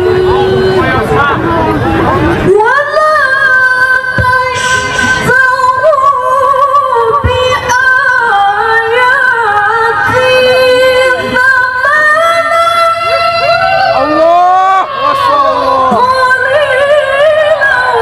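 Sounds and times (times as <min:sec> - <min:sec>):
woman reciting melodically: 0:02.5 - 0:18.0.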